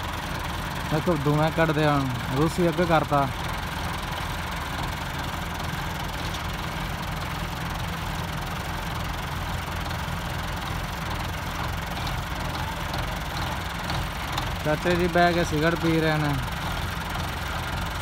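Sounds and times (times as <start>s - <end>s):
diesel tractor engines running: 0.0s - 18.0s.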